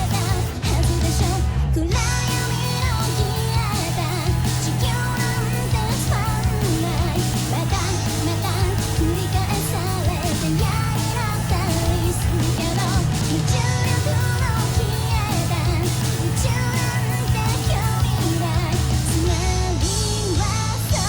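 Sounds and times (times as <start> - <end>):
pop song with female vocal: 0.0 - 21.0.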